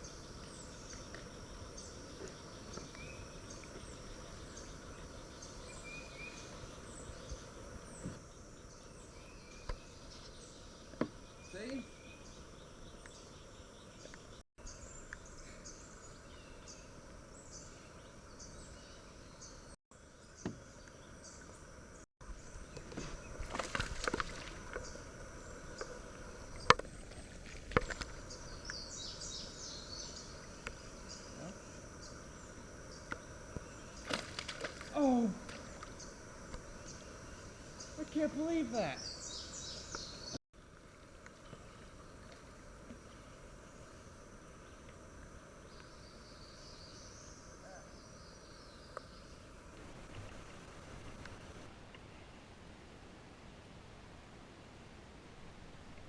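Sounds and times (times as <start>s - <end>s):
birds chirping: 0.0s - 40.4s, 41.4s - 51.7s
high insect drone: 0.0s - 51.7s.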